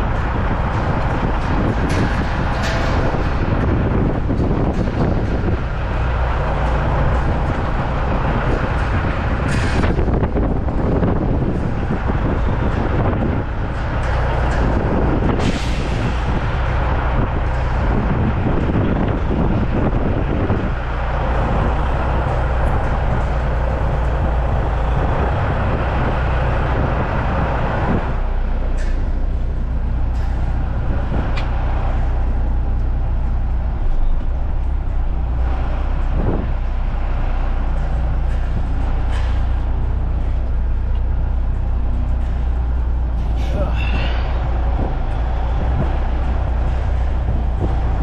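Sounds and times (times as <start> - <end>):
truck diesel engine idling: 0.0 - 48.0.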